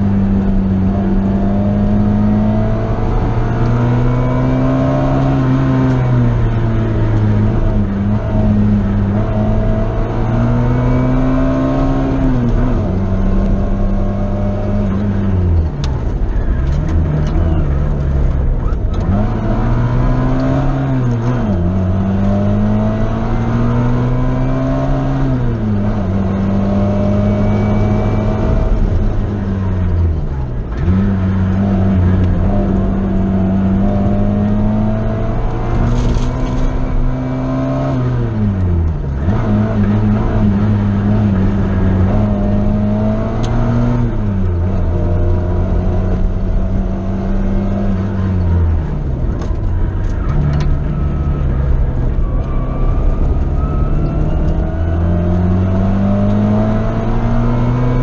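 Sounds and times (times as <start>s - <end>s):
road and wind noise: 0.0s - 58.0s
sports car engine: 0.0s - 58.0s.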